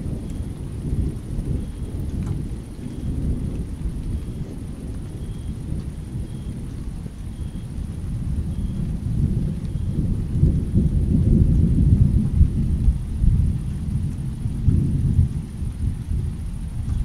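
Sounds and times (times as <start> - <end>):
rain on wet pavement: 0.0 - 17.0
rumble of thunder: 0.0 - 17.0.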